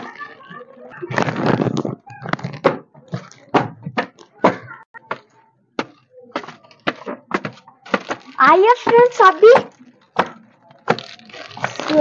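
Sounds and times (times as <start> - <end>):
faint murmur of voices: 0.0 - 12.0.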